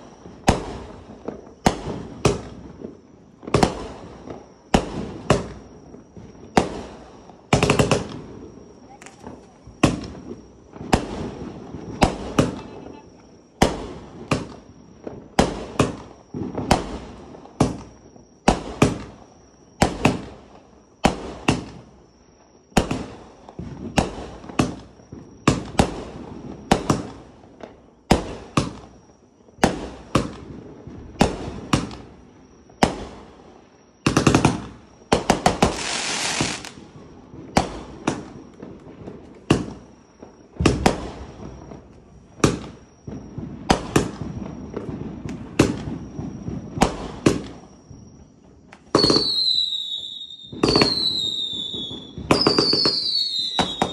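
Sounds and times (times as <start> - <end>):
fireworks banging: 0.0 - 22.1, 22.7 - 33.4, 34.0 - 53.9
fireworks crackling and hissing: 0.0 - 53.9.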